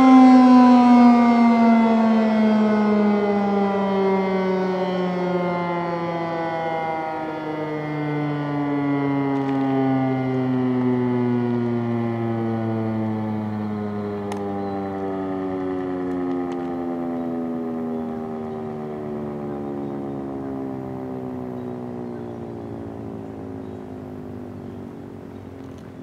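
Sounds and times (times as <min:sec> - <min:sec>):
warning siren winding down: 0:00.0 - 0:26.0.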